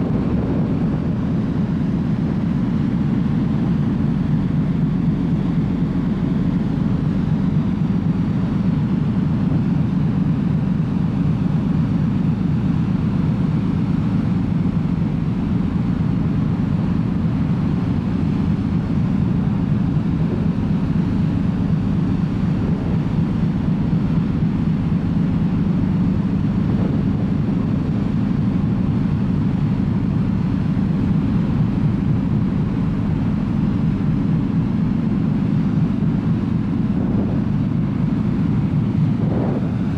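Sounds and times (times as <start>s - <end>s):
ship engines rumbling: 0.0s - 39.9s.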